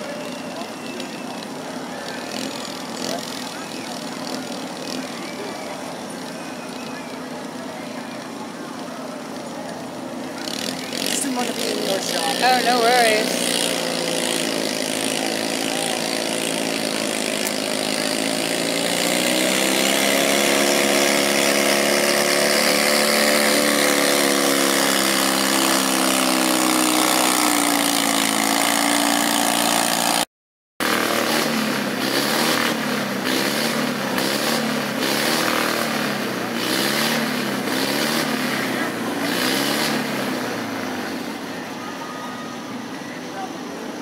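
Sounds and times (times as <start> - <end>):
garden tractor engine revving: 0.0 - 8.6, 9.2 - 41.6
tractor engine wavering pitch: 0.0 - 30.2, 30.8 - 44.0.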